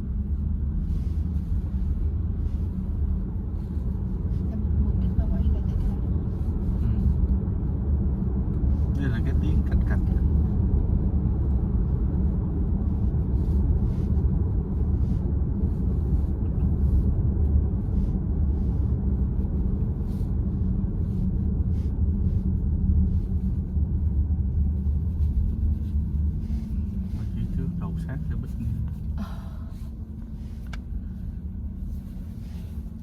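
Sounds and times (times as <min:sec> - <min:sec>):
road and tyre rumble: 0:00.0 - 0:33.0.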